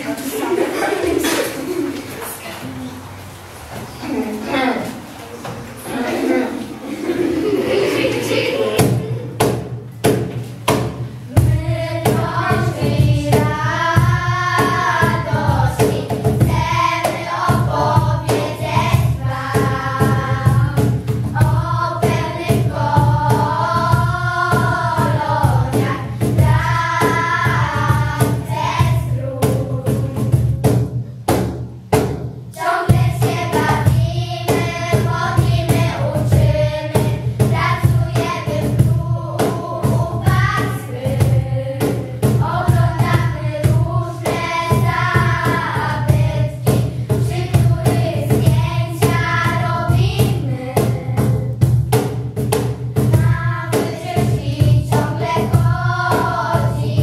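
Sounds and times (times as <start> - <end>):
children singing: 3.9 - 9.6, 11.3 - 30.8, 32.6 - 51.6, 53.0 - 57.0.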